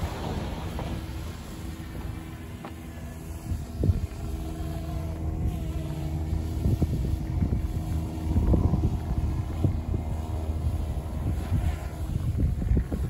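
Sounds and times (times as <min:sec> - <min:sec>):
low mechanical hum: 0:00.0 - 0:13.0
wind buffeting microphone: 0:00.0 - 0:13.0.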